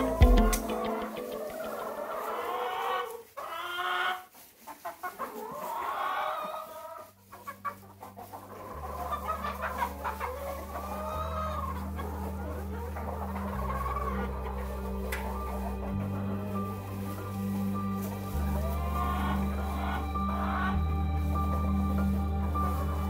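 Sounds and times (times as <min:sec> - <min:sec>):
hens and roosters clucking: 0:00.0 - 0:23.0.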